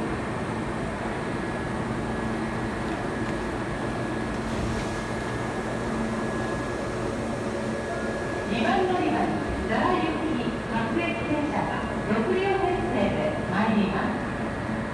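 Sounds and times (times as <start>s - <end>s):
train equipment humming: 0.0s - 14.9s.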